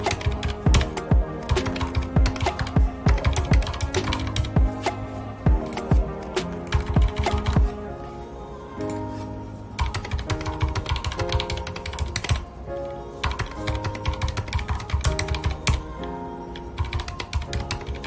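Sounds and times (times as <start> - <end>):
background music with held notes: 0.0 - 18.0.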